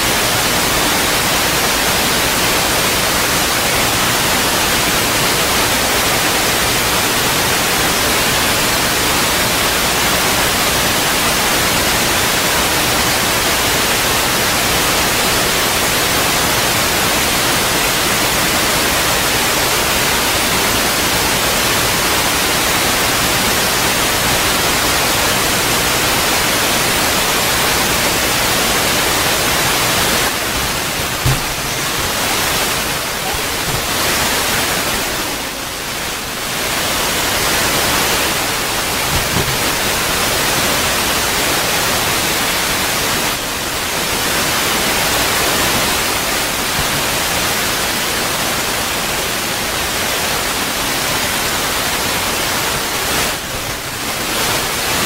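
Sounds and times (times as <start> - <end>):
loud static hiss: 0.0 - 55.0.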